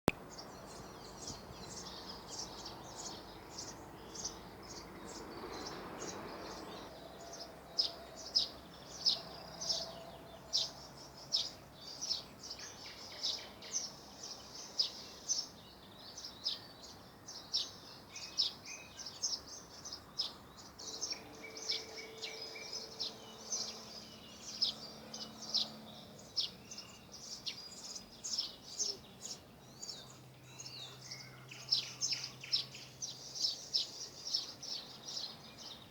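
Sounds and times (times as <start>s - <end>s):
forest birds chirping: 0.0s - 35.9s.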